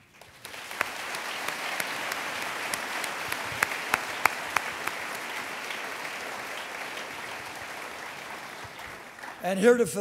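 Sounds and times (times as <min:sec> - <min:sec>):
audience applauding: 0:00.0 - 0:09.8
loud single claps: 0:00.4 - 0:09.4.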